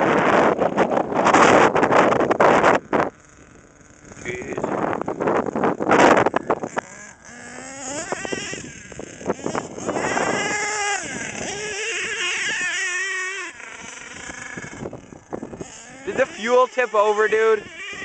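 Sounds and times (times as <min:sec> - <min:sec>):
model truck engine revving: 0:00.0 - 0:18.0.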